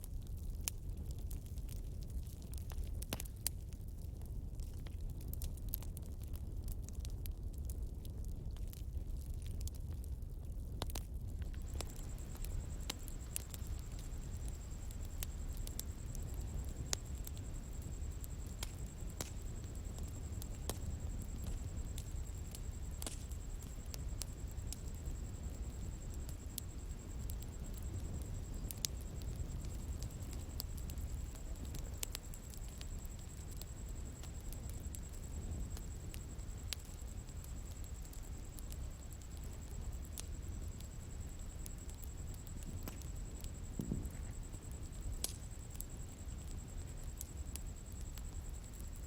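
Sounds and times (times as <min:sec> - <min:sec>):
campfire crackling and popping: 0:00.0 - 0:49.0
crickets trilling: 0:00.1 - 0:49.0.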